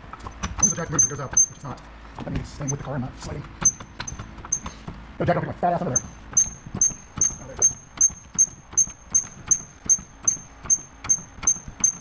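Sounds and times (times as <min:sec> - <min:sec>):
floor jack pumping clicks and squeaks: 0:00.0 - 0:05.0, 0:05.8 - 0:12.0.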